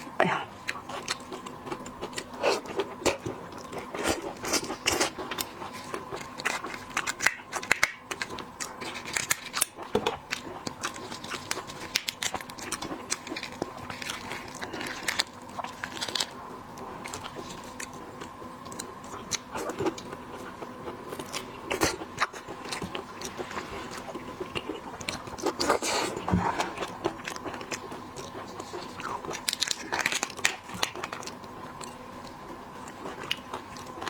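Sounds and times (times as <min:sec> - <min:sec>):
faint steady hum: 0:00.0 - 0:34.0
crunching shellfish shells: 0:00.6 - 0:34.0.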